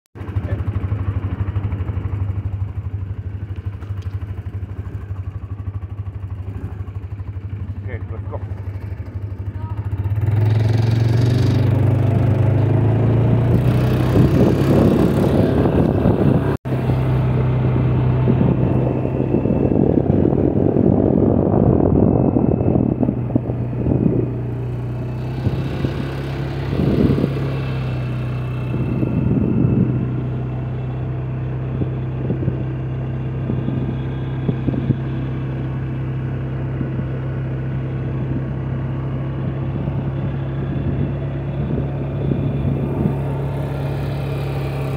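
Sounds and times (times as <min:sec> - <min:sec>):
atv engine droning: 0:00.2 - 0:44.9.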